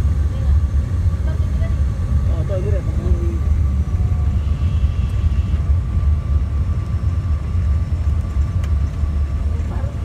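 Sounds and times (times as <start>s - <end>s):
aircraft engine and propeller drone: 0.0s - 10.0s
thin steady whine: 0.0s - 10.0s.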